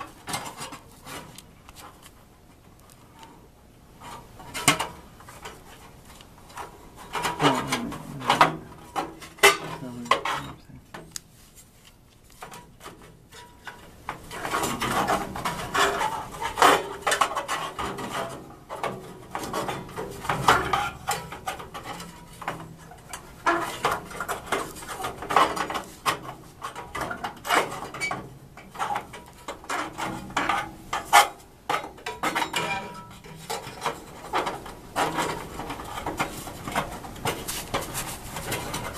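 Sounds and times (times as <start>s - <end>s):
metal scraping: 4.0s - 10.7s, 12.4s - 38.9s.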